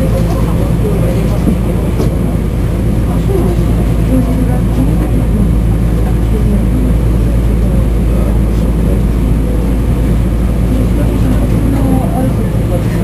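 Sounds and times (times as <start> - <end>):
tram low drone: 0.0 - 13.0.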